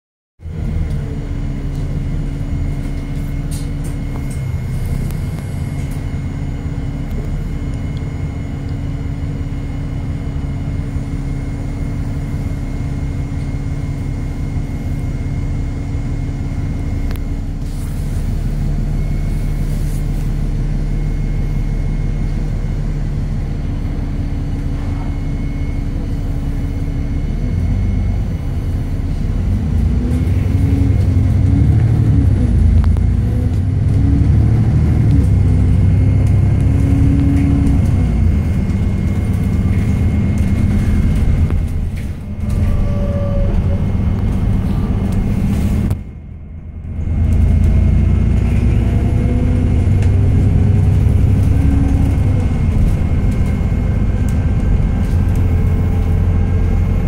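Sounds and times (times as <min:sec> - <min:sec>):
bus engine drone with whine: 0:00.4 - 0:57.0.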